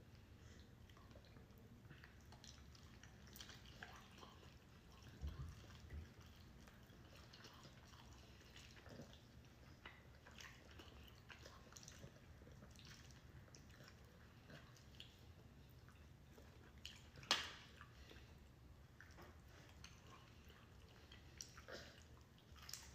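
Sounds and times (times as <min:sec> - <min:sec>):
soft chewing and mouth smacks: 0:00.0 - 0:22.9.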